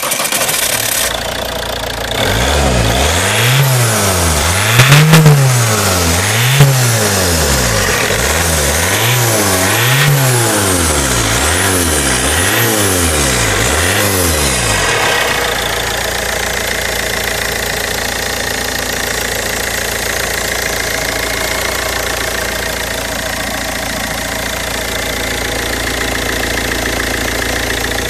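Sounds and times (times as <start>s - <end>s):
diesel engine idling and revving: 0.0s - 28.0s.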